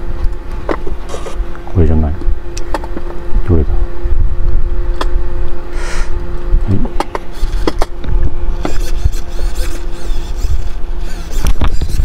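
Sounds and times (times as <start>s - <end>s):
servos whirring: 0.0s - 12.0s
steady hum: 0.0s - 12.0s.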